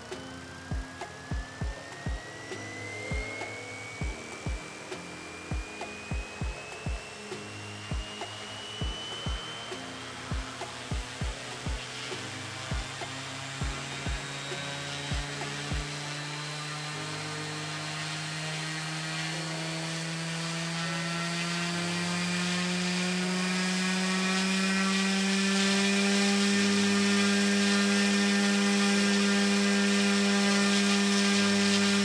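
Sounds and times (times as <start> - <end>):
motor driving propeller whine: 0.0 - 32.0.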